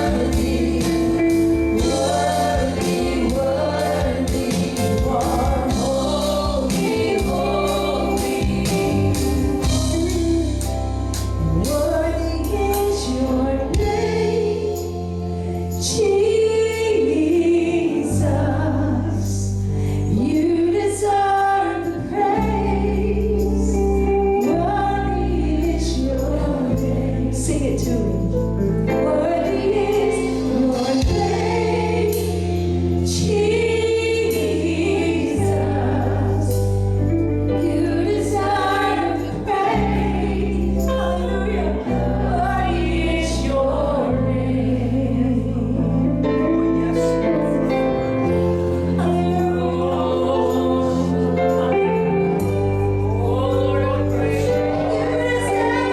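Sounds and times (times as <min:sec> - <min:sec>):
band with bass and percussion: 0:00.0 - 0:55.9
group of voices singing: 0:00.0 - 0:55.9.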